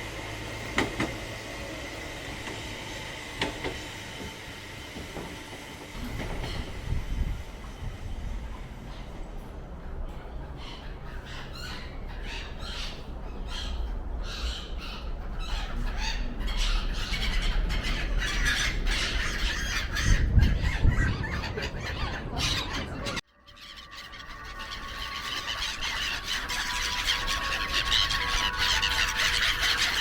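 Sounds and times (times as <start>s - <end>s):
gulls calling: 0.0s - 30.0s.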